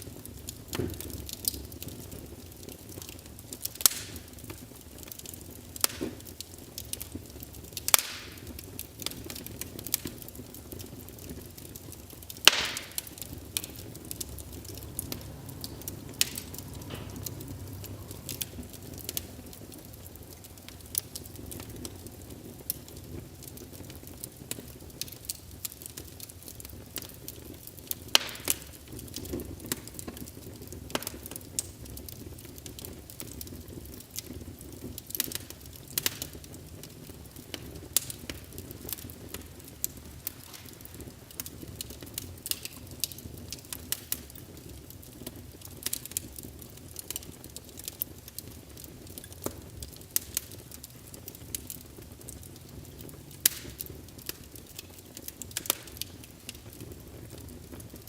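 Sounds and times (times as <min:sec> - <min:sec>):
logs crackling and popping: 0:00.0 - 0:58.0
low rush of flame: 0:00.0 - 0:58.0.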